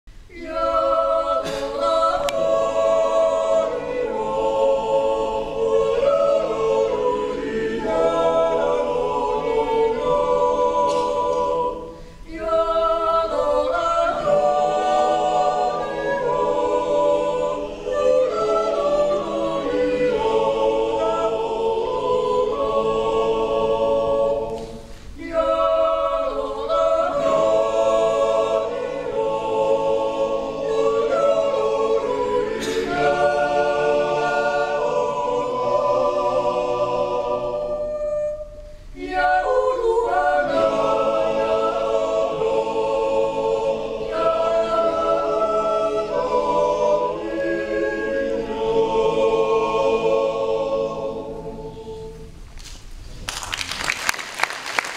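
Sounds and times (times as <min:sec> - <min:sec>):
choir yodelling a cappella: 0:00.2 - 0:52.5.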